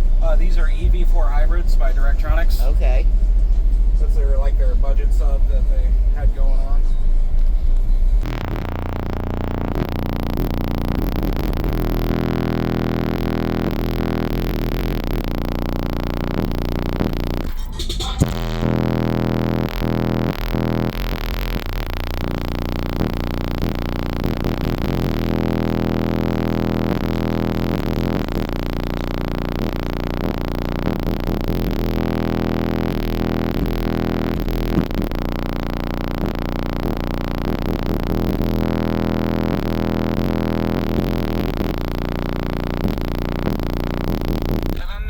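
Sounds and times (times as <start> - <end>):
bass-heavy synthesizer music: 0.0 - 45.0.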